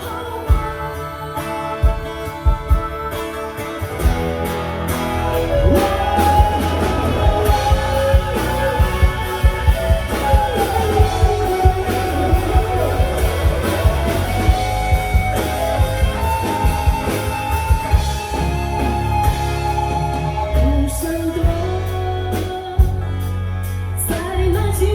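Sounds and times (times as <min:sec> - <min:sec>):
bass guitar: 0:00.0 - 0:24.9
lead guitar melody: 0:00.0 - 0:24.9
steady drums: 0:00.0 - 0:24.9.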